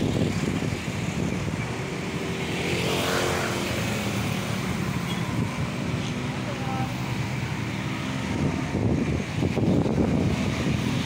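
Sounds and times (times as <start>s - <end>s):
steady low traffic rumble: 0.0s - 11.0s.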